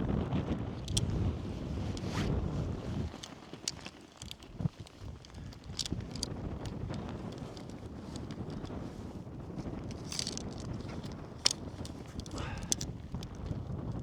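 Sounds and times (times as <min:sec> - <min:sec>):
wind buffeting microphone: 0:00.0 - 0:14.0
handling clicks and rustles: 0:00.8 - 0:14.0.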